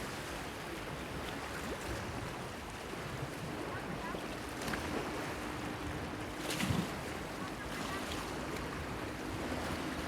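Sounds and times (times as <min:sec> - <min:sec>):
light wind: 0:00.0 - 0:10.0.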